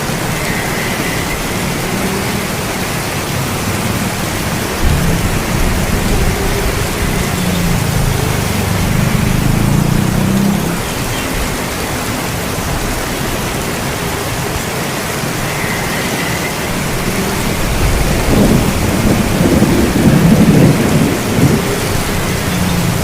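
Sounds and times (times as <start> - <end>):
low thunder rumble: 0.0 - 23.0
steady rain: 0.0 - 23.0.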